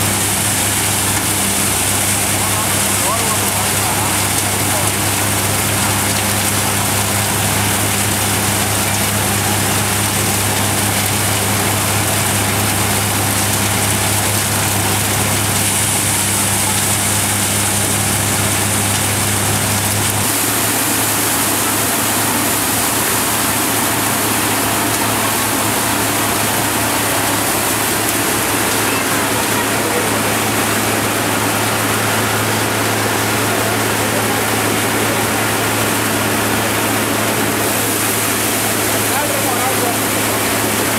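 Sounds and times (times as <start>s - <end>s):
dense rushing of threshing grain: 0.0s - 40.9s
thresher machine hum: 0.0s - 40.9s.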